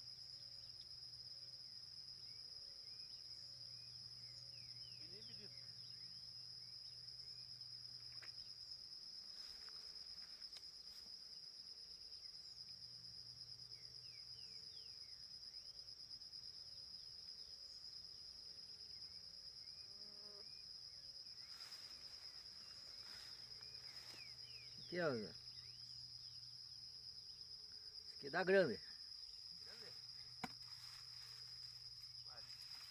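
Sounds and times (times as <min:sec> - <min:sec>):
insects trilling: 0:00.0 - 0:32.9.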